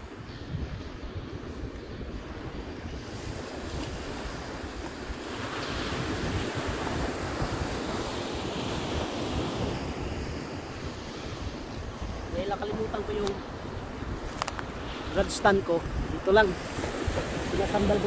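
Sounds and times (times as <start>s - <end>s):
ocean surf breaking on beach: 0.0s - 18.0s
wind buffeting microphone: 0.0s - 18.0s.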